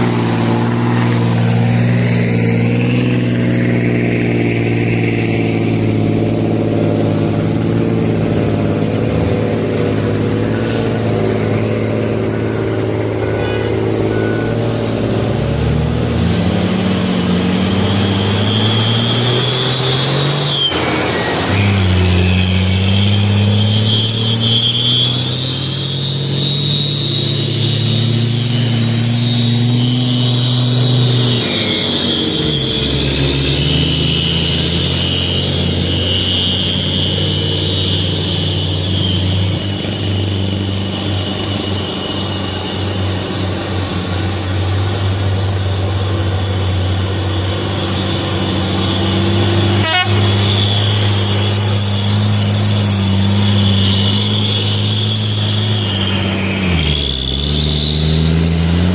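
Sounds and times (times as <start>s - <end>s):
truck diesel engine under load: 0.0s - 58.9s.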